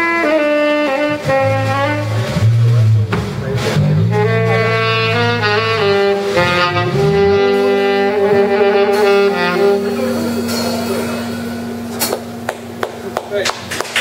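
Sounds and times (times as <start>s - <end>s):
saxophone: 0.0s - 13.1s
live band playing: 0.0s - 14.0s.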